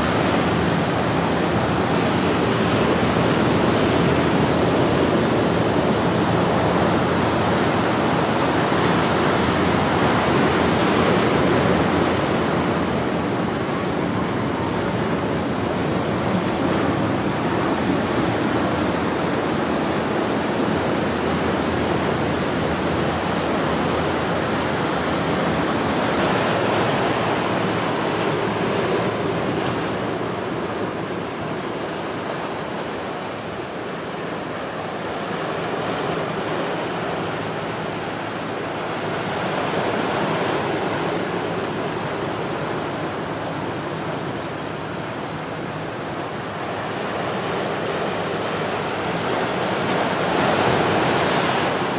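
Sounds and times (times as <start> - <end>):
surf breaking over rocks: 0.0 - 33.8, 34.4 - 51.9.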